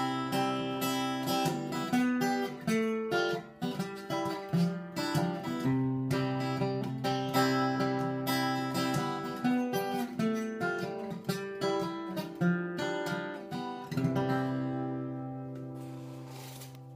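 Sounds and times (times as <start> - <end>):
acoustic guitar fingerpicked: 0.0 - 16.9.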